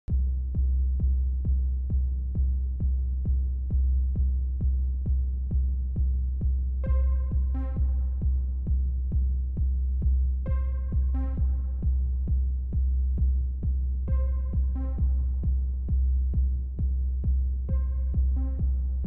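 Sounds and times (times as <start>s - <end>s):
sustained low bass: 0.0s - 19.0s
four-on-the-floor kick drum: 0.1s - 19.0s.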